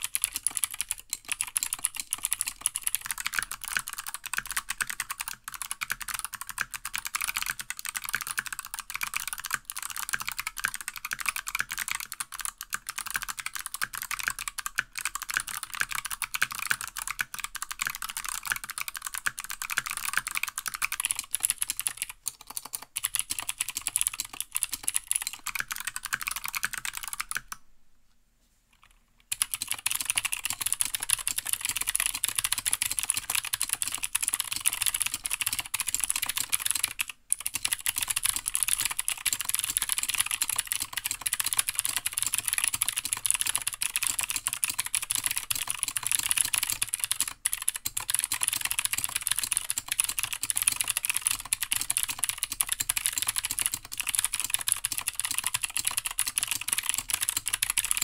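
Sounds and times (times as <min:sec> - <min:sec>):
fast typing on mechanical keyboard: 0:00.0 - 0:27.6, 0:28.8 - 0:58.0.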